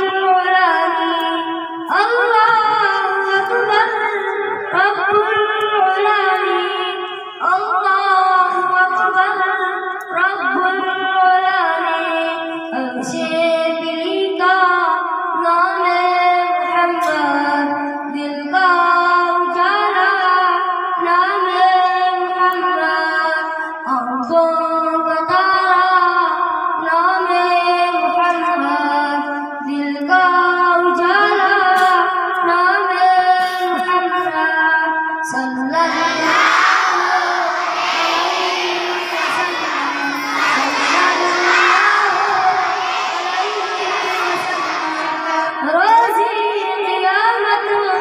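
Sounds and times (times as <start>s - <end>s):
boy singing through loudspeaker: 0.0s - 48.0s.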